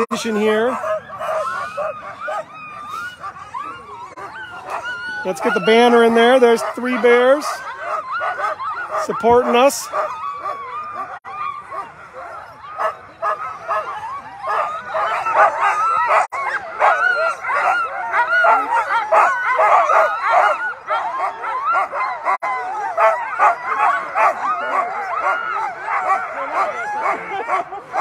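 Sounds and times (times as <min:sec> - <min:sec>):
sled dogs barking and yelping: 0:00.0 - 0:28.0.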